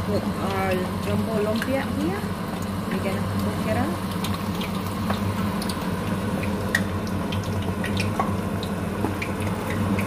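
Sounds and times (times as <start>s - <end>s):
food frying in hot oil: 0.0s - 10.0s
oil crackles and pops: 0.0s - 10.0s.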